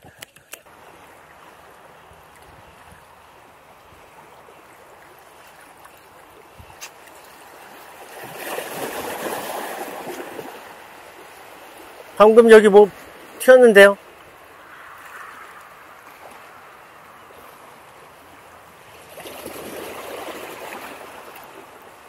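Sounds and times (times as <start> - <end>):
sea waves washing over rocks: 0.6 - 22.0.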